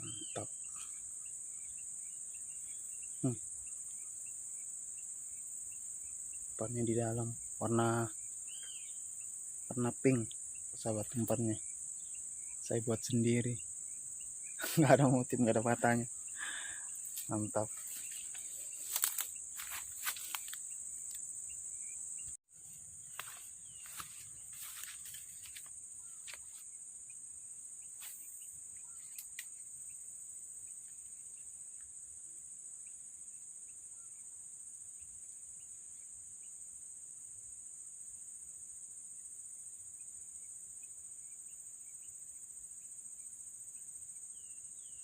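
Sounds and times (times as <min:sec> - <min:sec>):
high-pitched insect chorus: 0:00.0 - 0:45.0.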